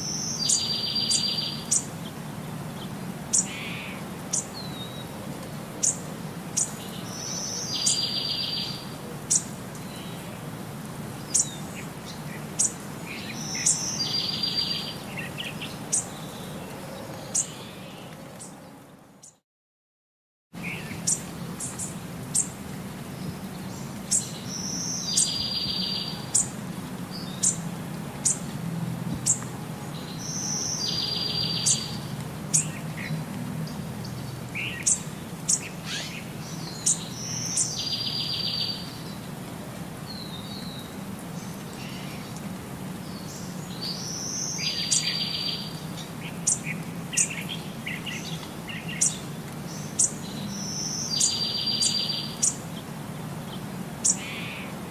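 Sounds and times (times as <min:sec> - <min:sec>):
birds chirping: 0:00.0 - 0:10.4, 0:11.1 - 0:19.4, 0:20.6 - 0:28.5, 0:29.1 - 0:39.4, 0:40.0 - 0:54.8.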